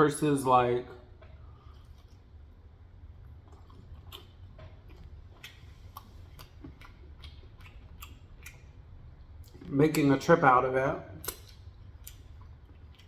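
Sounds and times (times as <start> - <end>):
low steady hum: 0.0 - 13.0
faint chewing: 1.2 - 10.1, 11.2 - 13.0.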